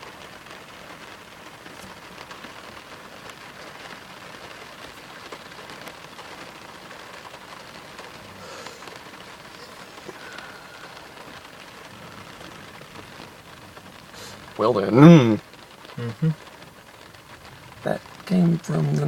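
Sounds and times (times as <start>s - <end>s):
rain falling on a car: 0.0s - 19.0s
raindrop ticks: 0.0s - 19.0s.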